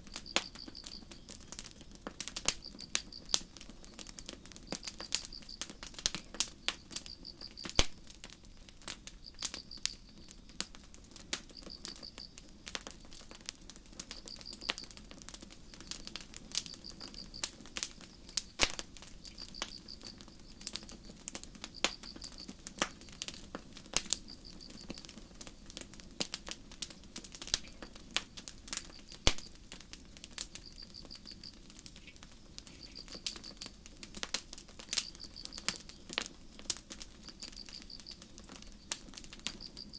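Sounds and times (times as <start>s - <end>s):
cricket chirping: 0.0s - 13.3s, 14.0s - 23.4s, 24.0s - 25.2s, 27.0s - 39.9s
campfire crackling and popping: 0.0s - 39.9s.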